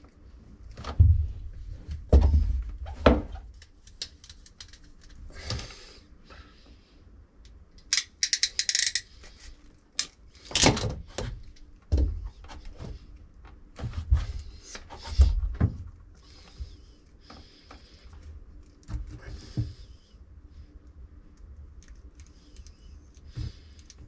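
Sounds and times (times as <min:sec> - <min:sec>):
rustling of wires and hoses: 0:00.0 - 0:06.8, 0:07.4 - 0:24.0.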